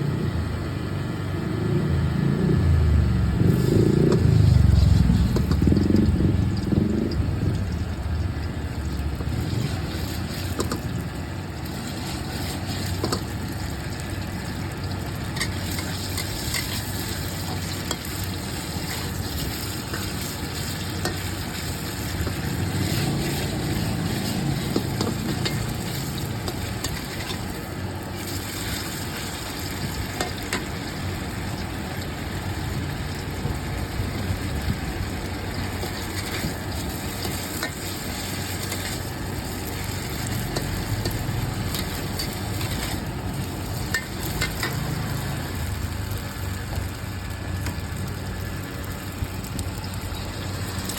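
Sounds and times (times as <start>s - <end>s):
food sizzling: 3.3s - 50.9s.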